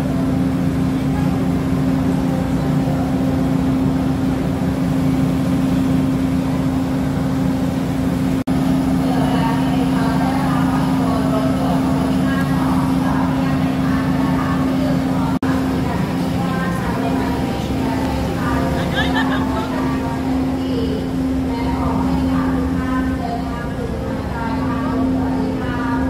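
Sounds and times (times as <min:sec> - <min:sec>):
diesel train humming: 0:00.0 - 0:26.0.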